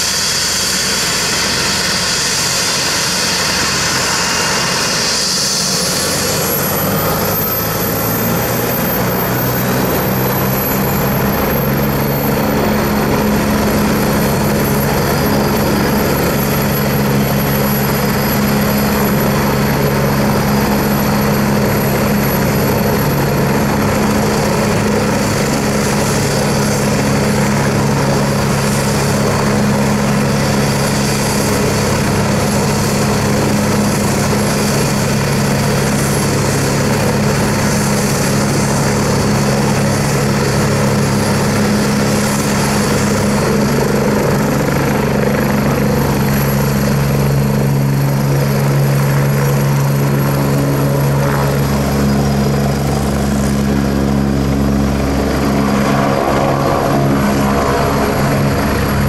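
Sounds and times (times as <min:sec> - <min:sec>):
high turbine whine: 0:00.0 - 0:59.0.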